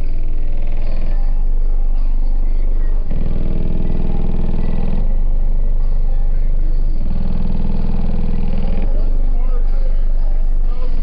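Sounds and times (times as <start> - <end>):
bass-heavy music on subwoofer: 0.0 - 11.0.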